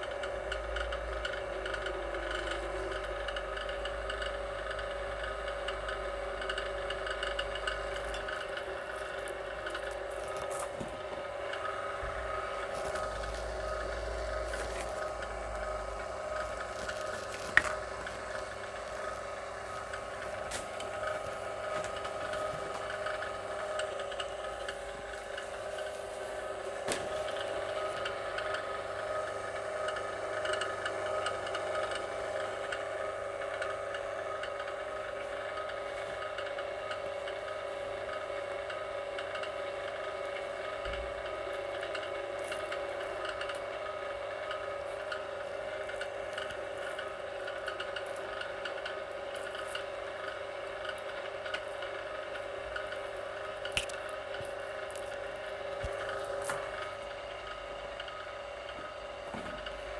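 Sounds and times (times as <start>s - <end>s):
electric motor humming: 0.0s - 34.9s, 40.6s - 59.9s.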